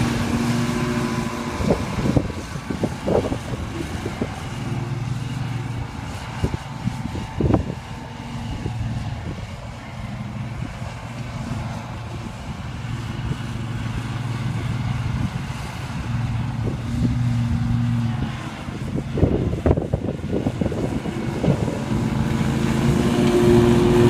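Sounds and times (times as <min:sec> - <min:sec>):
riding mower engine: 0:00.0 - 0:24.0.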